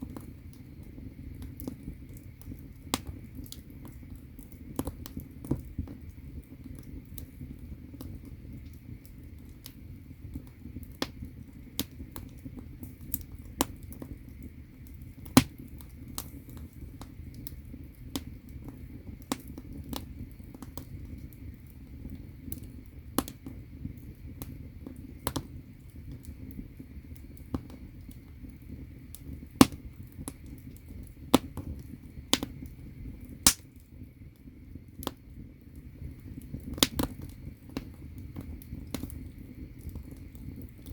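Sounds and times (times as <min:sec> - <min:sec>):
firewood crackling and popping: 0:00.0 - 0:40.9
low rush of fire: 0:00.0 - 0:40.9.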